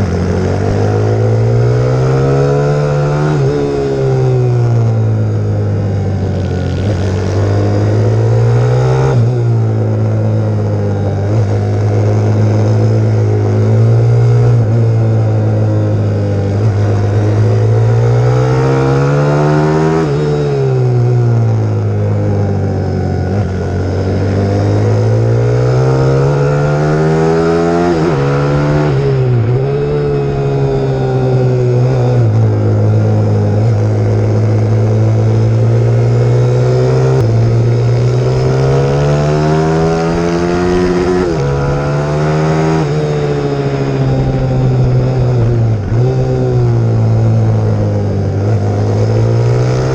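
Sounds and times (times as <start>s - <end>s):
pit bike engine revving: 0.0s - 49.9s.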